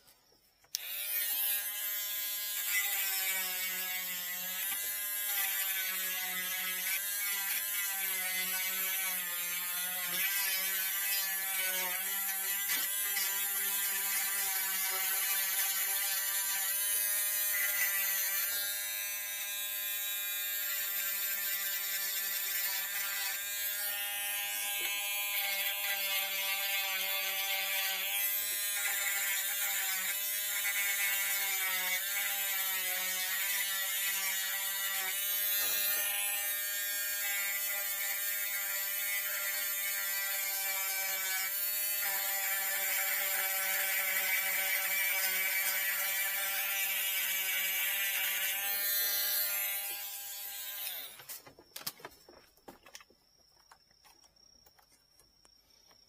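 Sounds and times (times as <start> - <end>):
small electric motor running: 0.7 - 51.3.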